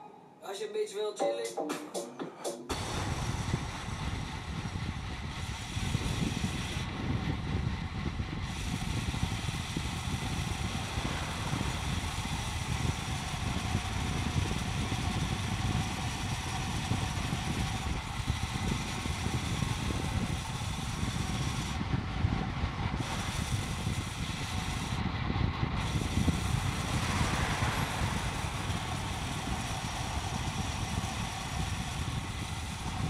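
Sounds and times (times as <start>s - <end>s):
road noise: 2.7s - 33.0s
wind rushing over microphone: 2.7s - 33.0s.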